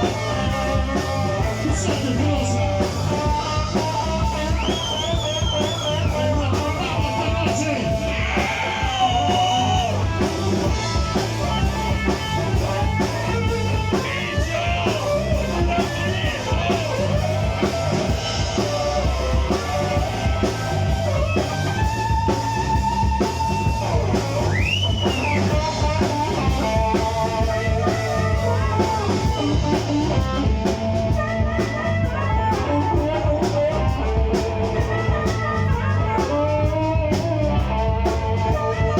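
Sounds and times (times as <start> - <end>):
blues band playing: 0.0 - 38.9
lead electric guitar: 0.0 - 38.9.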